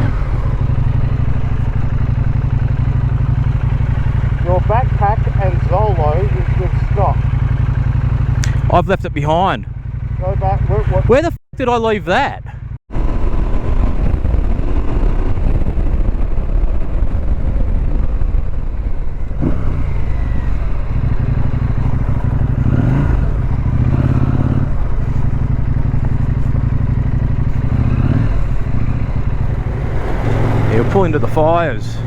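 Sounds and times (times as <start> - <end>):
motorcycle engine running: 0.0 - 11.3, 12.5 - 32.0.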